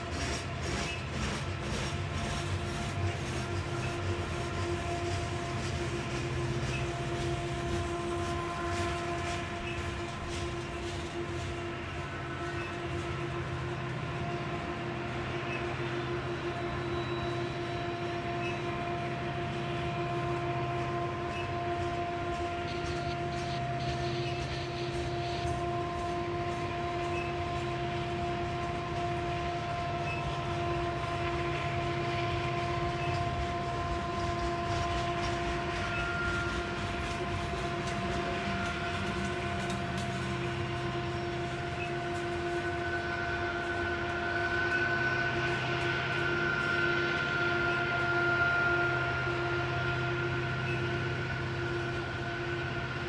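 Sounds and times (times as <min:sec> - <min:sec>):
constant whine: 0:00.0 - 0:53.0
heavy diesel engine drone: 0:00.0 - 0:53.0.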